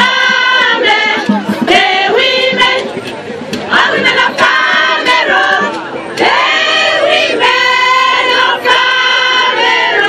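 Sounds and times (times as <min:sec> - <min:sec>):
women singing in chorus: 0:00.0 - 0:03.0, 0:03.6 - 0:10.0.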